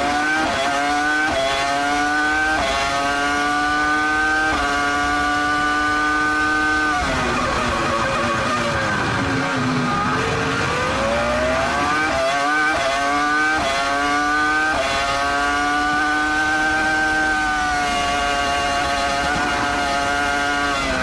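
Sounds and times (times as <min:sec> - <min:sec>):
racing car engine revving: 0:00.0 - 0:21.0.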